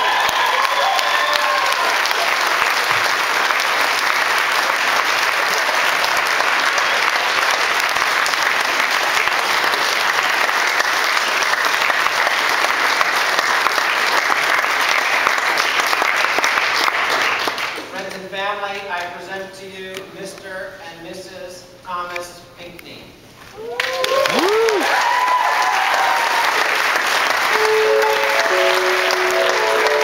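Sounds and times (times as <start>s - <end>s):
crowd applauding: 0.0s - 17.9s, 23.6s - 30.0s.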